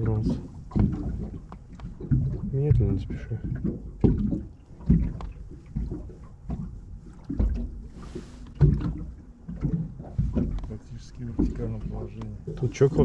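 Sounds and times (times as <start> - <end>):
waves slapping against boat hull: 0.0 - 13.0.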